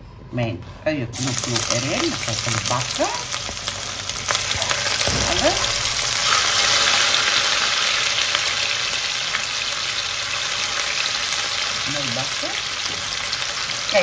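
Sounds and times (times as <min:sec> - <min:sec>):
onion sizzling in hot oil: 0:01.2 - 0:14.0.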